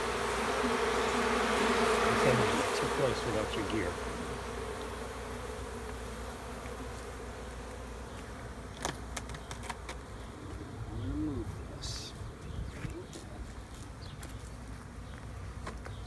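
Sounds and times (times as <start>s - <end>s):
bee flying past: 0.0s - 15.2s
honeybees buzzing: 0.0s - 16.0s.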